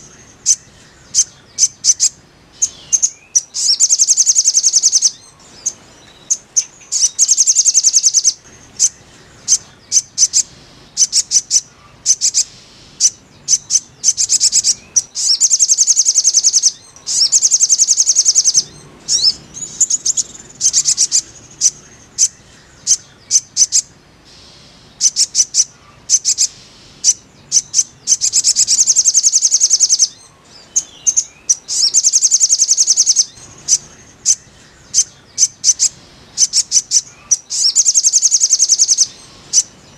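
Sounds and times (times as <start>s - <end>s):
bird chirps: 0.0s - 39.9s
bird trilling: 0.0s - 39.9s.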